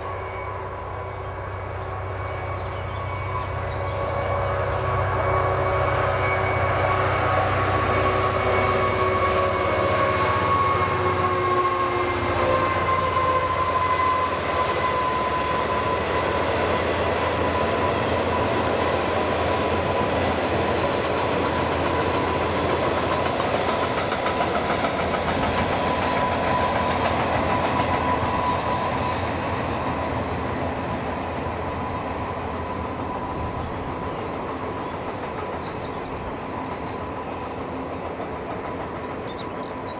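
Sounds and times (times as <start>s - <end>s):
diesel locomotive engine: 0.0s - 39.9s
train wagons clickety-clack: 0.0s - 39.9s.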